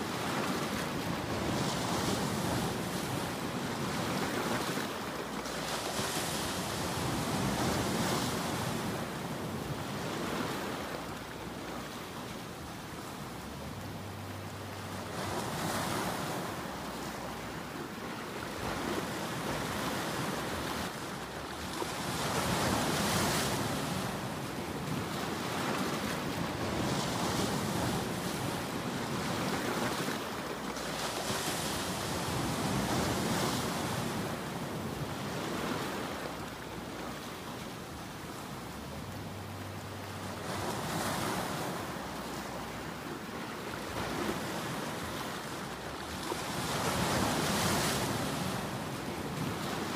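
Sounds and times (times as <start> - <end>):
waves breaking and washing in: 0.0 - 49.9.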